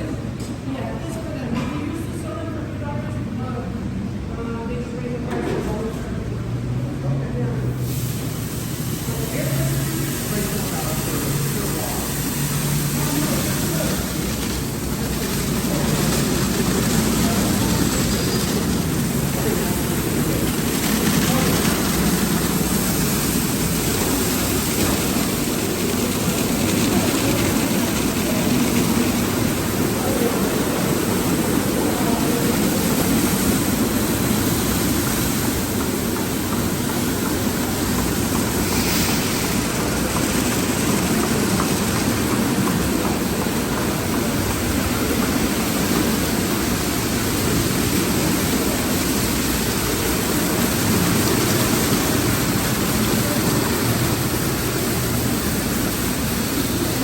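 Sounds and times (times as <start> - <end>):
car wash equipment roaring: 0.0 - 57.0.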